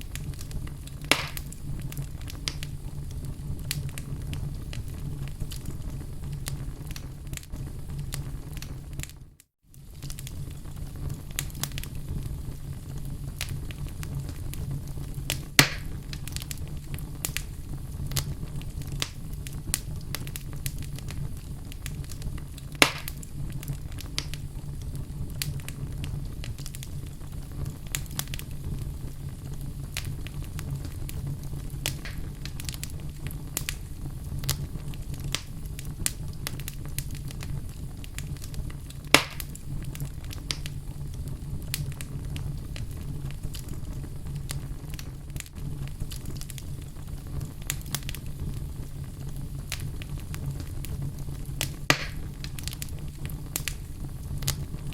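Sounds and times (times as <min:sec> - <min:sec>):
fire crackling and popping: 0:00.0 - 0:54.9
wood fire rumbling: 0:00.0 - 0:54.9.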